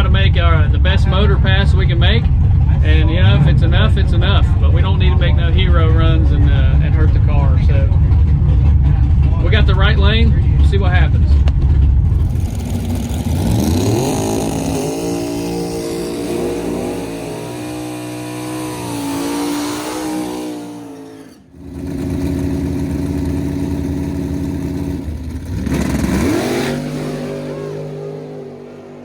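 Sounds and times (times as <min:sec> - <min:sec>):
drag racing car engine: 0:00.0 - 0:29.0.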